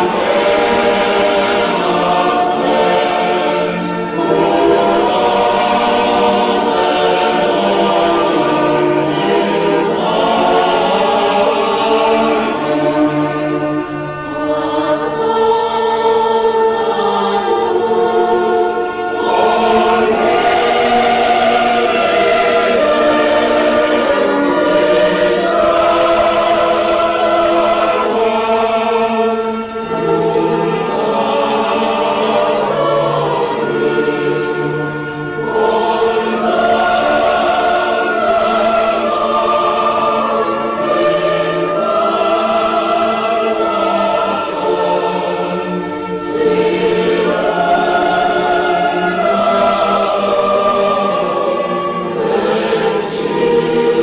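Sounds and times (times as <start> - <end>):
choir singing held chords: 0.0 - 54.0.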